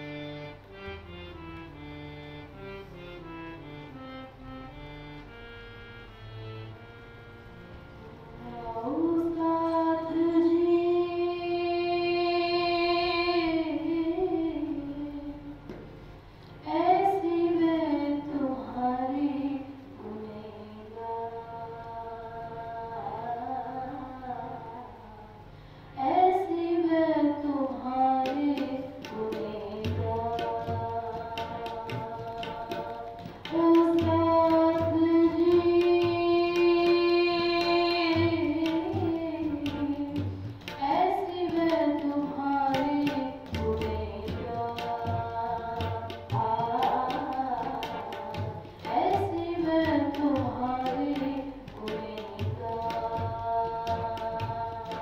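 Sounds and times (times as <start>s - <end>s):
woman singing into a microphone: 8.4s - 15.8s, 16.6s - 55.0s.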